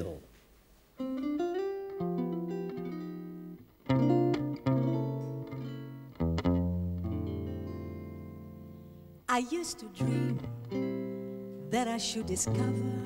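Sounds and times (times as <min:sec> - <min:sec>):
guitar chords: 0:01.0 - 0:13.0.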